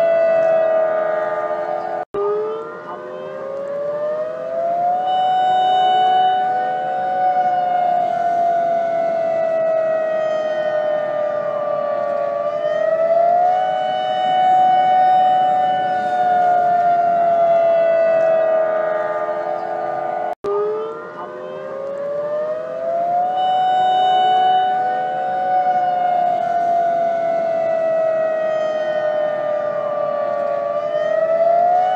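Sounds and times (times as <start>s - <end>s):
siren wailing: 0.0s - 31.9s.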